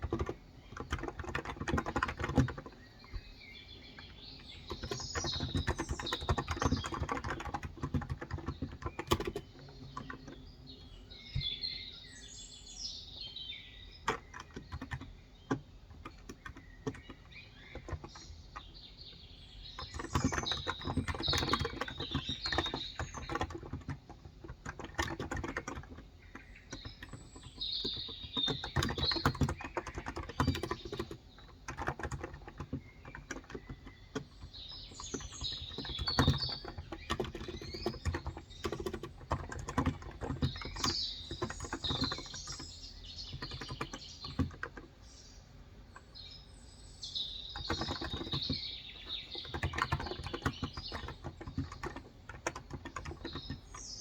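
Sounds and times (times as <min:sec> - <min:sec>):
keyboard typing: 0:00.0 - 0:11.6, 0:13.9 - 0:18.8, 0:19.7 - 0:45.0, 0:47.2 - 0:54.0
birds chirping: 0:00.0 - 0:54.0.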